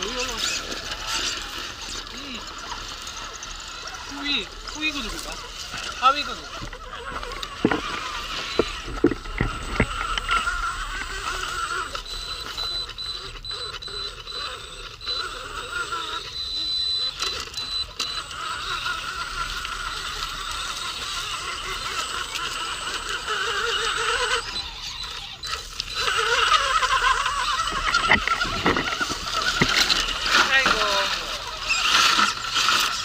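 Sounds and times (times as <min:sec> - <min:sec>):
rc truck electric motor whining: 0:00.0 - 0:33.0.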